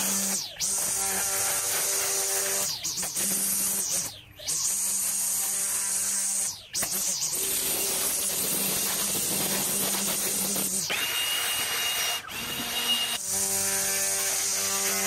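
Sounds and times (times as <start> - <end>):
string trimmer cutting grass: 0.0 - 15.0.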